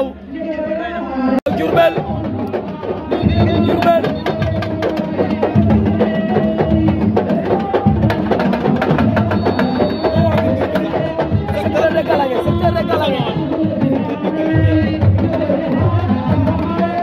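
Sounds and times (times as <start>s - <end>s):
fast drumming: 1.5s - 17.0s.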